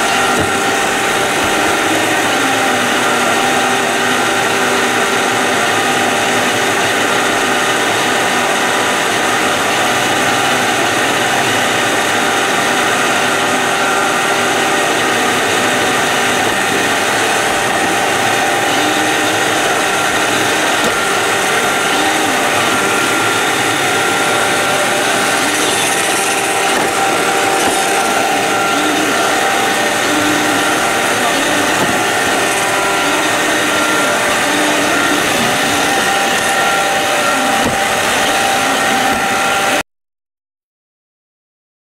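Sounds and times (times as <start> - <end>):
robot vacuum whirring: 0.0 - 39.8.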